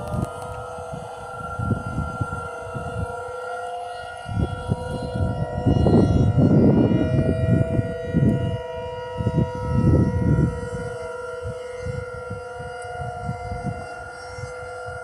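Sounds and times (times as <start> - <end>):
distant warning sirens: 0.0 - 15.0.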